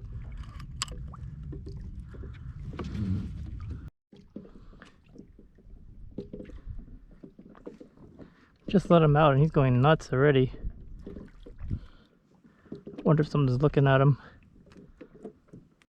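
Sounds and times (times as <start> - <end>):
water sloshing around a kayak: 0.0 - 15.9.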